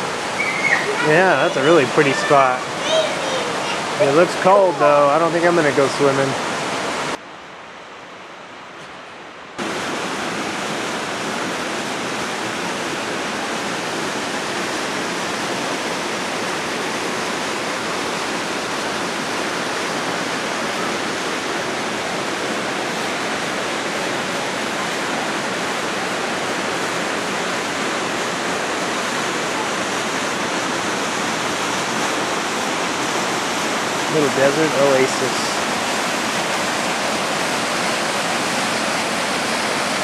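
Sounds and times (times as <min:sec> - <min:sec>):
creek water rushing: 0:00.0 - 0:40.0.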